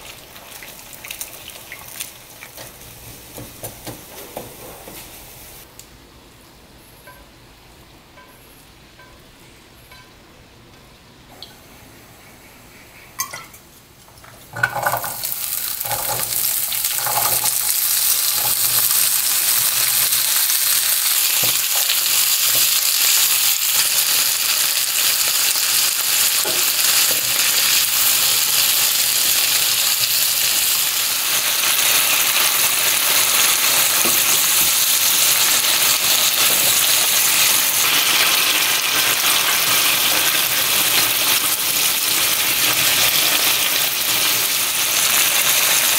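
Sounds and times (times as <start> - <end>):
vegetables sizzling in hot oil: 0.0 - 5.7, 14.5 - 45.9.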